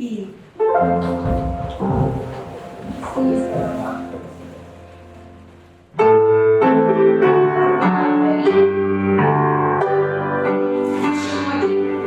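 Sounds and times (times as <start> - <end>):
piano chords over bass notes: 0.6 - 12.0.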